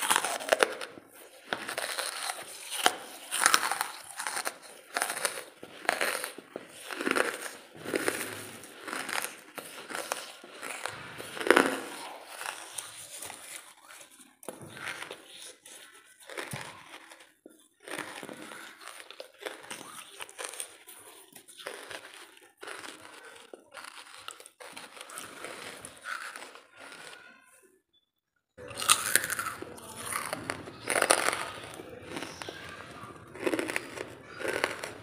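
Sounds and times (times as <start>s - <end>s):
charcoal crunching and crackling: 0.0s - 27.4s, 28.6s - 35.0s.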